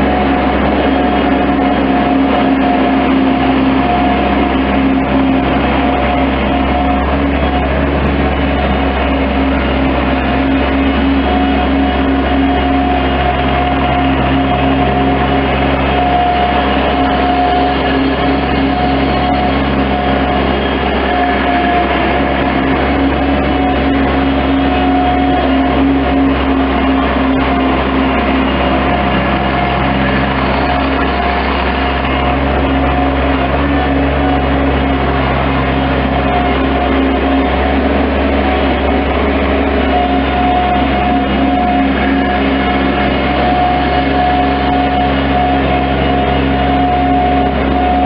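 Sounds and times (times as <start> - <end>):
loader engine running: 0.0 - 48.0.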